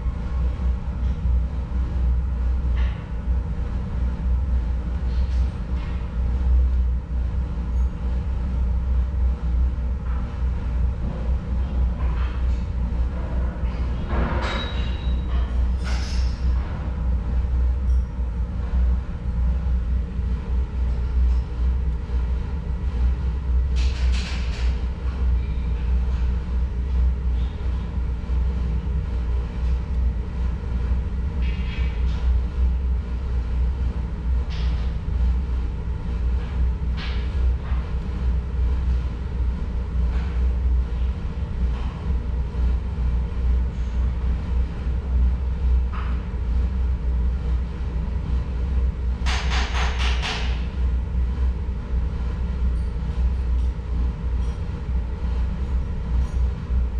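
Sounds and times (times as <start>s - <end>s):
furnace low rumble: 0.0s - 56.9s.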